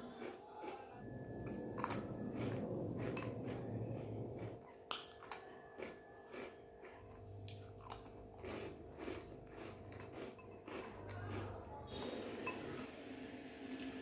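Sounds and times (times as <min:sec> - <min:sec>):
person chewing crunchy food: 0:00.0 - 0:12.9.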